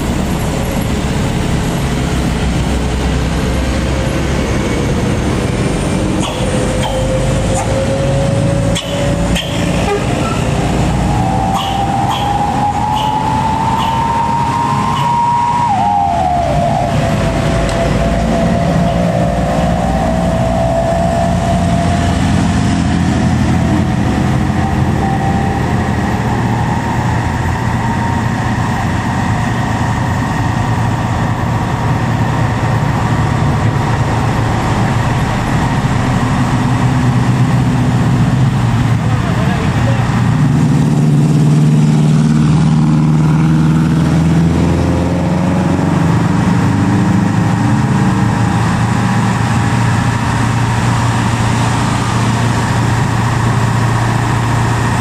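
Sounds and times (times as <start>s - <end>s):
rising engine whine: 0.0s - 55.0s
truck diesel engine under load: 0.0s - 55.0s.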